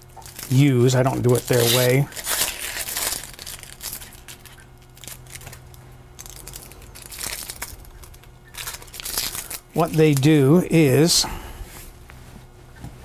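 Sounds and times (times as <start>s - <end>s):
onion skin crinkling and tearing: 0.0s - 10.6s
faint low hum: 0.0s - 13.0s.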